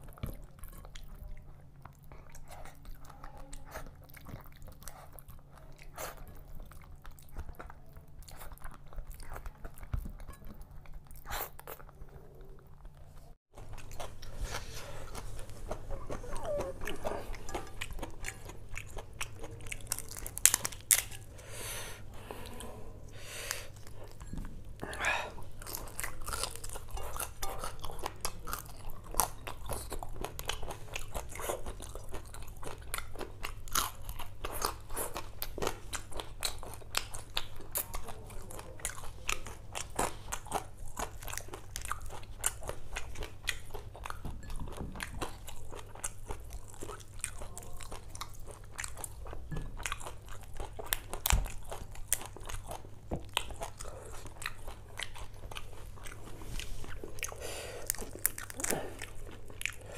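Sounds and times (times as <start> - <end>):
person chewing and crunching: 0.0 - 59.9.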